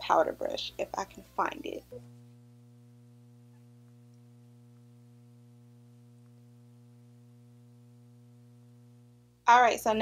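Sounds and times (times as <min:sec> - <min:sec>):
faint electrical mains hum: 0:00.0 - 0:10.0.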